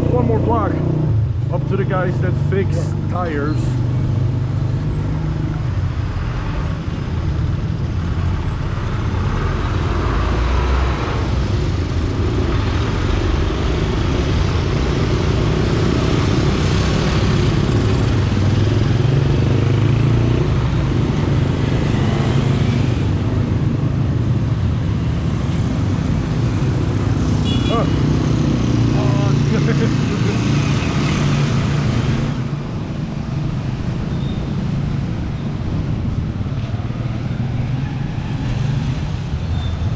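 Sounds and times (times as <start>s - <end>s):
passing vehicle engines rumble: 0.0s - 39.9s.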